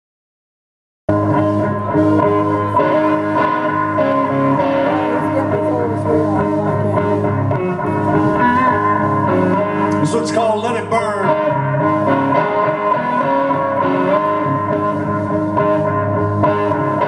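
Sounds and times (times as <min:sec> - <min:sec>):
blues band playing: 0:01.1 - 0:17.0
electric guitar: 0:01.1 - 0:17.0.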